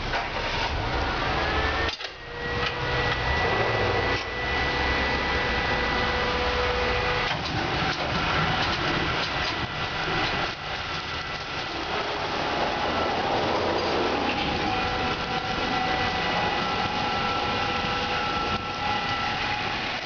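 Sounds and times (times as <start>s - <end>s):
car wash rushing noise: 0.0s - 20.0s
low motor hum: 0.0s - 20.0s
steady machine whine: 0.0s - 20.0s.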